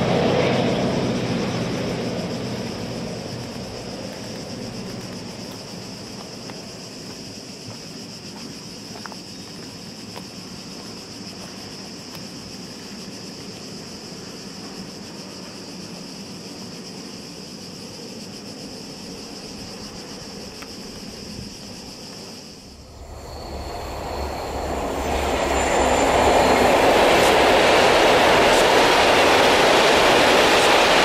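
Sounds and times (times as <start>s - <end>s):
cicadas chirring: 0.0s - 31.0s
distant freight train rumble: 0.0s - 31.0s.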